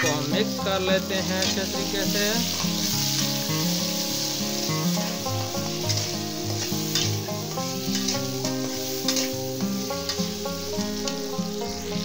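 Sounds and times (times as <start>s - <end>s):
background music: 0.0s - 12.0s
metal spatula scraping pan: 0.0s - 12.0s
vegetables sizzling in pan: 0.0s - 12.0s.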